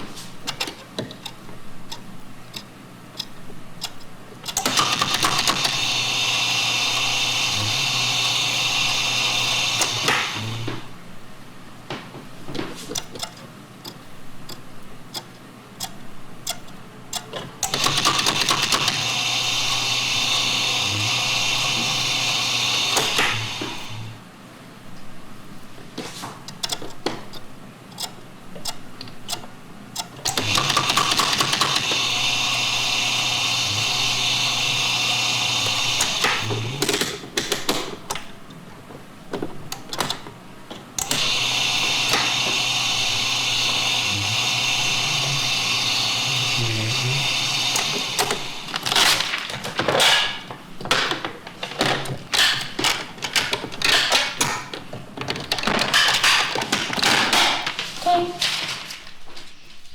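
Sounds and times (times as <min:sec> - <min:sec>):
small machine whirring: 0:00.0 - 0:11.7, 0:12.8 - 0:24.3, 0:26.5 - 0:58.6
mechanical clicking and knocking: 0:00.4 - 0:11.0, 0:11.9 - 0:24.2, 0:26.4 - 0:58.9.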